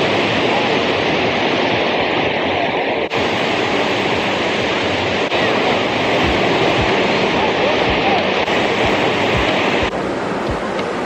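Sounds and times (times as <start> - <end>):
ocean waves washing onto beach: 0.0 - 11.0
wind noise on microphone: 0.0 - 11.0.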